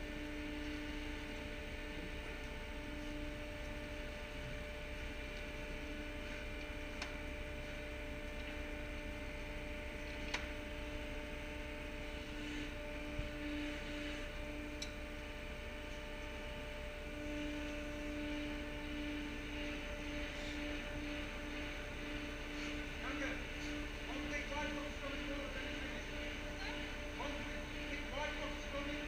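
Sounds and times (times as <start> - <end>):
machinery hum: 0.0 - 29.0.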